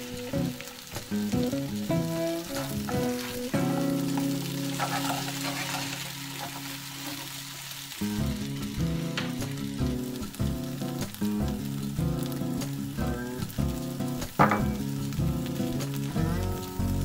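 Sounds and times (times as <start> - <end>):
background music: 0.0 - 17.0
potatoes sizzling in a frying pan: 0.0 - 17.0.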